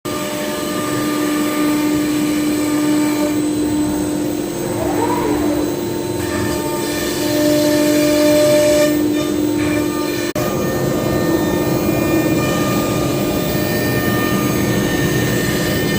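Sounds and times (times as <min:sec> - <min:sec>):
cnc router whining: 0:00.1 - 0:15.9.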